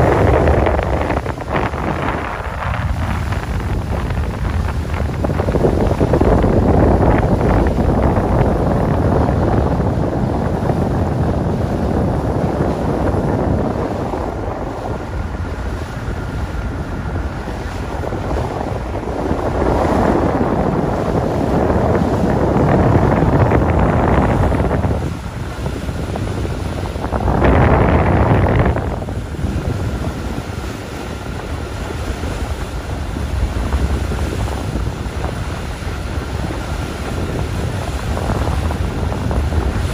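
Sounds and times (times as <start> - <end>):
boat motor: 0.0 - 39.9
water rushing past hull: 0.0 - 39.9
wind buffeting microphone: 0.0 - 39.9.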